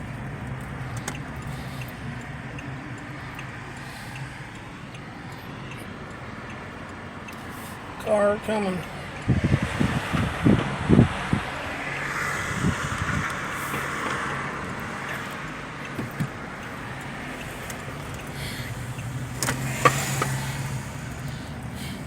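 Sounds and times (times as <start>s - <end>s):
car passing: 0.0s - 22.0s
low engine hum: 0.0s - 22.0s.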